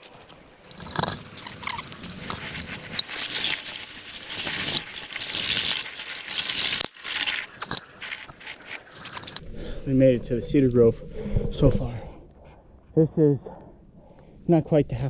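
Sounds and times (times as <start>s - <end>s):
pipe scraping over rough ground: 0.0s - 12.1s.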